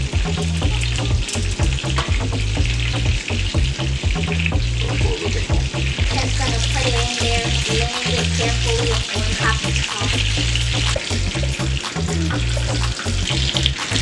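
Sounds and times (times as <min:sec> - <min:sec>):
music with stepping bass line: 0:00.0 - 0:14.0
oil sizzling and crackling: 0:00.0 - 0:14.0.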